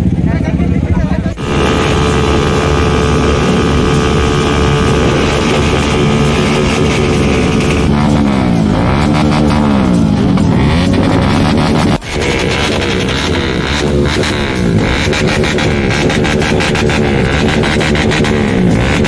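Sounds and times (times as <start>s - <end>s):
motorcycle engine revving: 1.3s - 19.0s
loud rushing noise: 1.4s - 19.0s.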